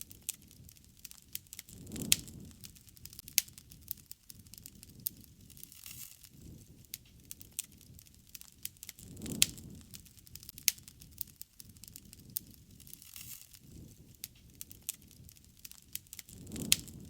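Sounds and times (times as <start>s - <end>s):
campfire crackling and popping: 0.0s - 17.0s
low rumble of flame: 0.0s - 17.0s.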